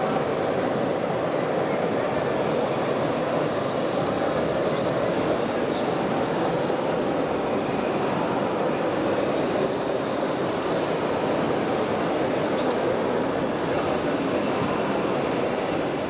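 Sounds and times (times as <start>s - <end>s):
din of busy exhibition hall: 0.0s - 16.0s.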